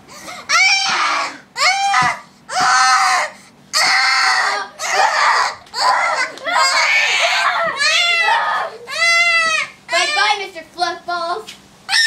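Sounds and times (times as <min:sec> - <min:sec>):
girl screaming and crying: 0:00.4 - 0:10.4.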